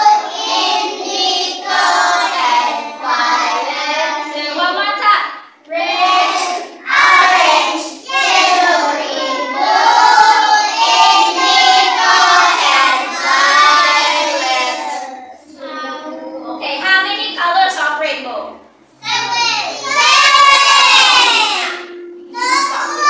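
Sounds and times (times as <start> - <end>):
children singing in unison: 0.0 - 4.5, 5.7 - 16.6, 19.0 - 23.0.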